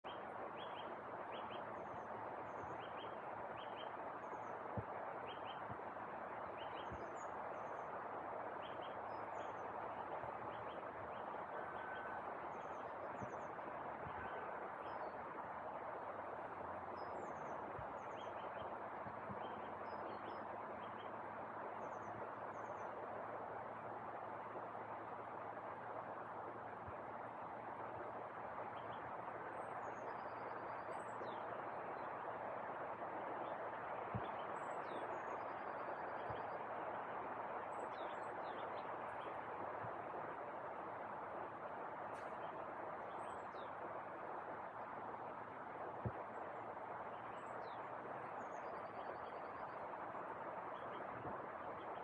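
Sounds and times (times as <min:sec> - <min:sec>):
small birds chirping: 0:00.0 - 0:52.0
steady rushing noise: 0:00.1 - 0:52.0.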